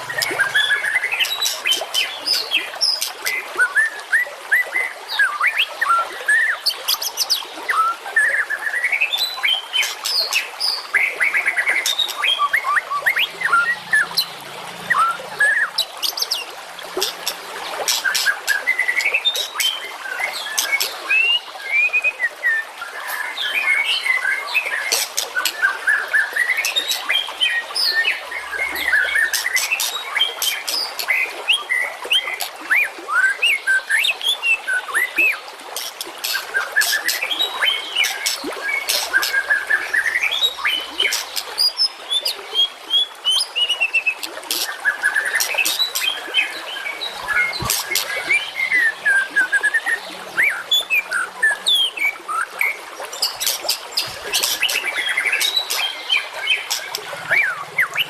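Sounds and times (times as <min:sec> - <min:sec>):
songbirds singing: 0:00.0 - 0:04.0, 0:05.1 - 0:58.0.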